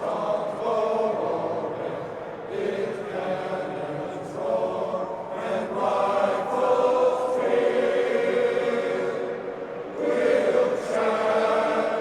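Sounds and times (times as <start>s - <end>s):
male choir singing sustained chords: 0.0s - 12.0s.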